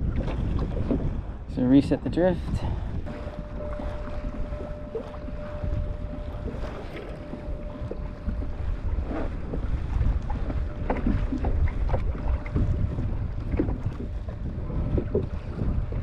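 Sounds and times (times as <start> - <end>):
water slapping against hull: 0.0 - 16.0
wind buffeting microphone: 0.0 - 16.0.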